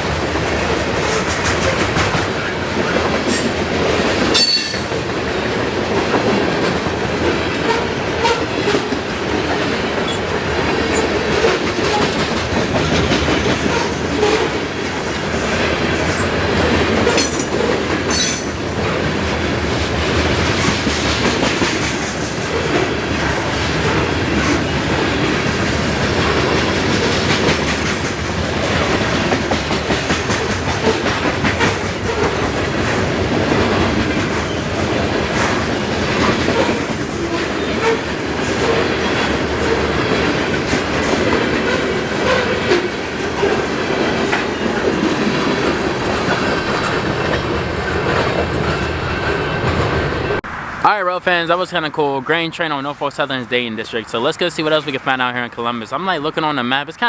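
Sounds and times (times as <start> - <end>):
wheels clicking over rail joints: 0.0 - 50.4
freight train rumbling past: 0.0 - 57.0.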